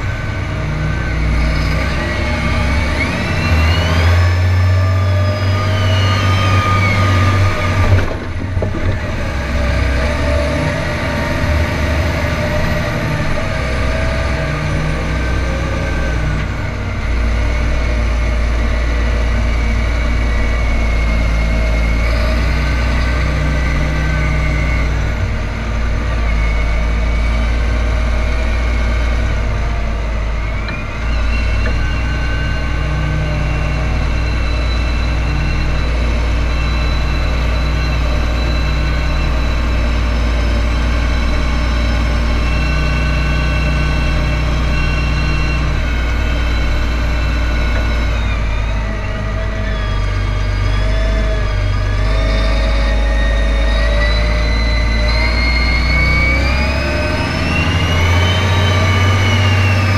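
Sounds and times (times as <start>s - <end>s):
high whine: 0.0s - 59.9s
tractor diesel engine running: 0.0s - 59.9s.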